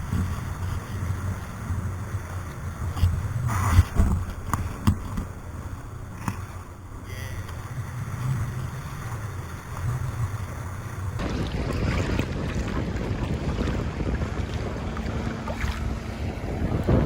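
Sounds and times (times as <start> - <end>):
jet ski engine rumbling: 0.0 - 17.0.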